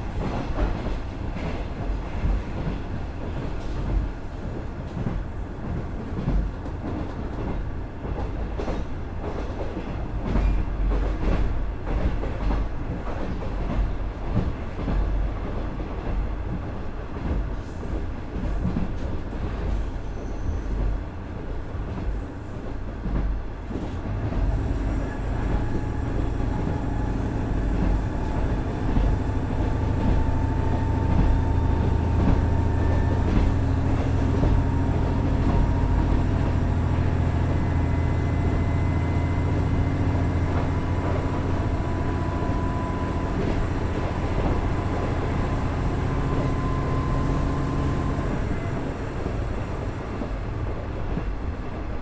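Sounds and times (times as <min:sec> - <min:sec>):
train wheel and track rumble: 0:00.0 - 0:52.0.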